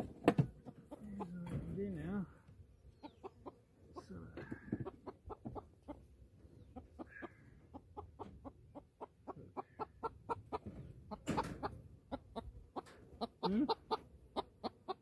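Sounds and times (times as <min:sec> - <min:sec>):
hens clucking: 0:00.0 - 0:15.0
hen drawn-out calls: 0:02.9 - 0:15.0.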